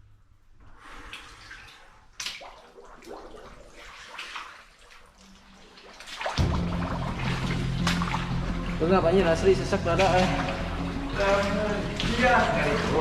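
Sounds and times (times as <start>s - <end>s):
splashes wading through water: 0.7s - 13.0s.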